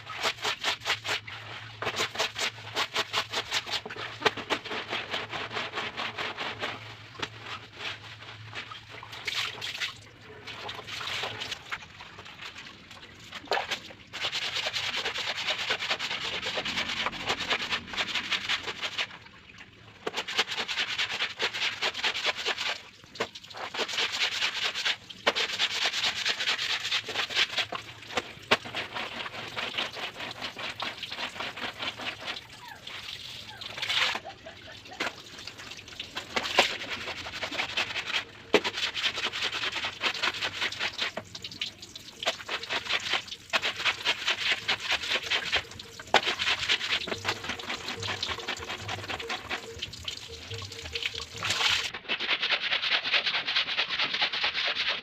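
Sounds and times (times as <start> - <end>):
laundry scrubbed by hand: 0.0 - 19.2, 20.0 - 55.0.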